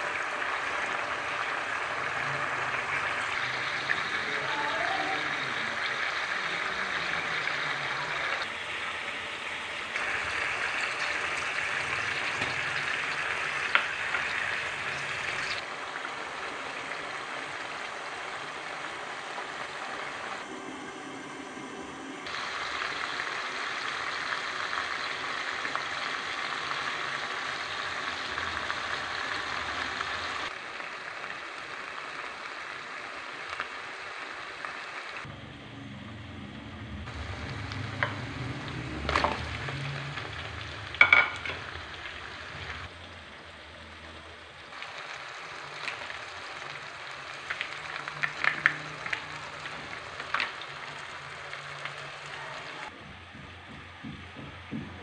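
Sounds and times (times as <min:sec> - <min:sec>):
chicken sizzling in hot oil: 0:00.0 - 0:35.3, 0:37.0 - 0:53.0.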